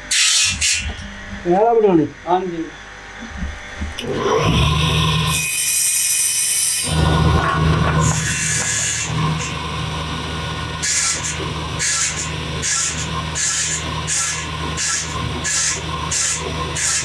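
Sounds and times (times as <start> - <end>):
circular saw motor running: 0.0 - 17.0.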